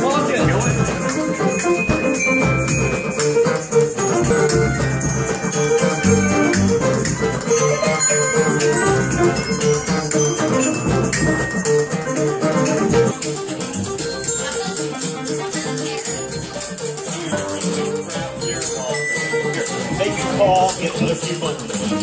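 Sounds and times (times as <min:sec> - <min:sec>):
guitar plucking melody: 0:00.0 - 0:22.0
shaker rhythm: 0:00.0 - 0:22.0.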